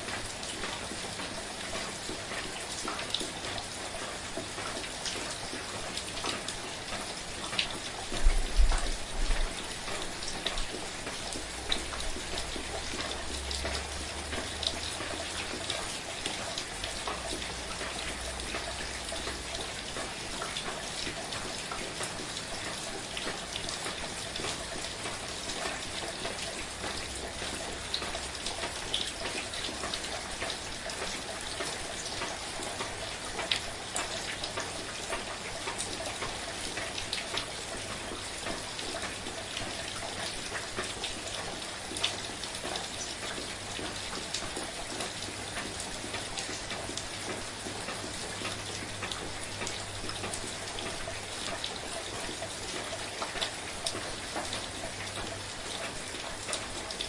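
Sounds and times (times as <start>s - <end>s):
raindrops ticking close by: 0.0s - 57.0s
soft rain hiss: 0.0s - 57.0s.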